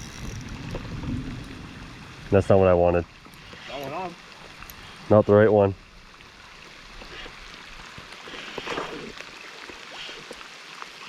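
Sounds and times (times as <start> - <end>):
rain on water and rocks: 0.0 - 11.0.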